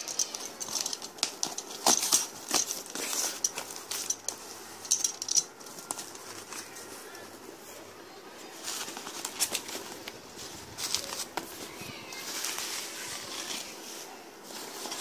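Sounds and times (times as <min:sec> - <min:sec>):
cardboard box crackling and rustling: 0:00.0 - 0:04.5, 0:05.6 - 0:07.4, 0:08.5 - 0:15.0.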